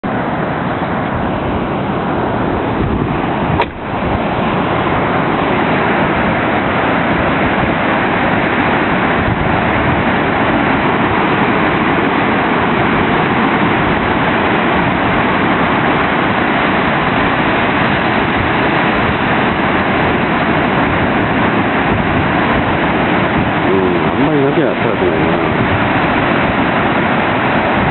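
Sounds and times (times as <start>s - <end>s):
waves breaking on beach: 0.0s - 27.9s.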